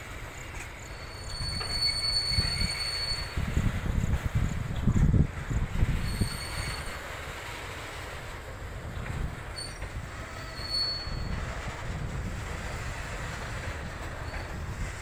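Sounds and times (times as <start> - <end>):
freight train rumbling: 0.0 - 15.0
high wheel squeals: 0.3 - 4.5, 5.4 - 15.0.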